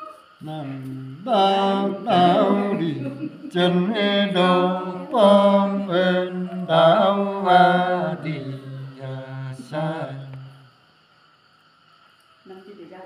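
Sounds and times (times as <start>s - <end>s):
man singing unaccompanied: 0.0s - 10.6s.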